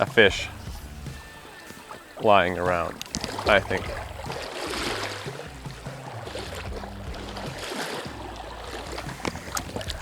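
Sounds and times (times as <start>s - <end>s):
river water rushing: 0.8s - 10.0s.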